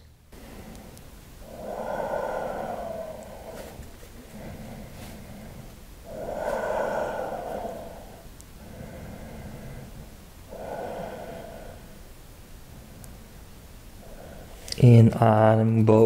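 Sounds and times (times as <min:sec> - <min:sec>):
man breathing: 0:00.0 - 0:14.8.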